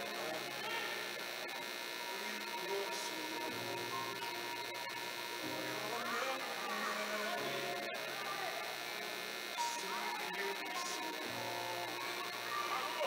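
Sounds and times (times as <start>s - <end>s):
electrical mains hum: 0.0s - 13.0s
faint indistinct voices: 0.0s - 13.0s.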